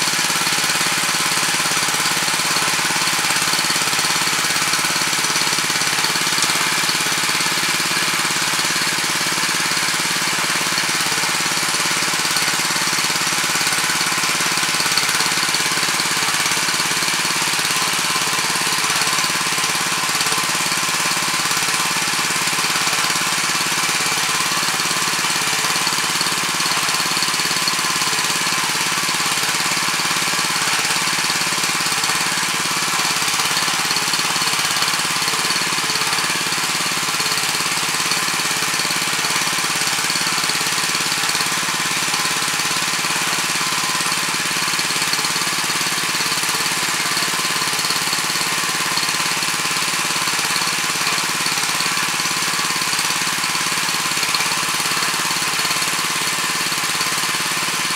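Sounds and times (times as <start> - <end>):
tiller churning soil: 0.0 - 57.9.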